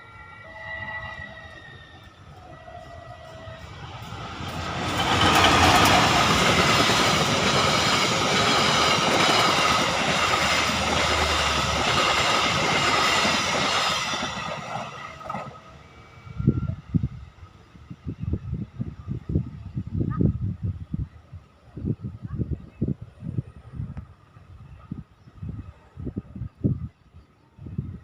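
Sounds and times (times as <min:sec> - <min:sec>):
train wheel and rail noise: 0:00.0 - 0:28.0.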